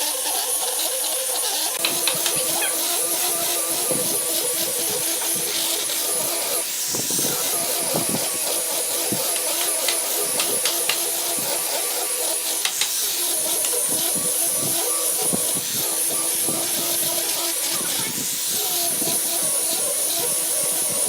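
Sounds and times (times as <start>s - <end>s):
small electric motor running: 0.0s - 21.0s.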